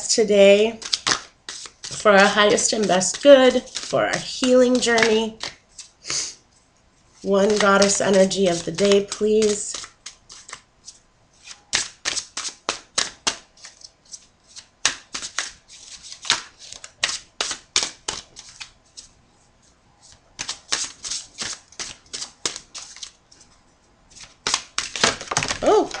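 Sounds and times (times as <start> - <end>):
cards being shuffled: 0.8 - 6.0, 7.2 - 19.1, 20.0 - 23.5, 24.1 - 26.0.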